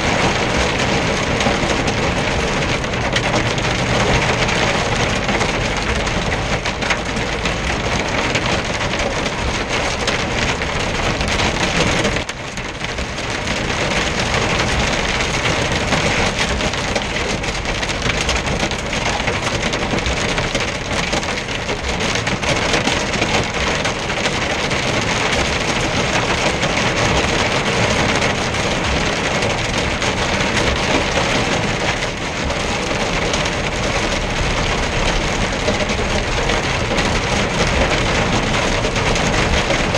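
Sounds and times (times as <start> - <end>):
rain and hail on vehicle roof: 0.0 - 39.9.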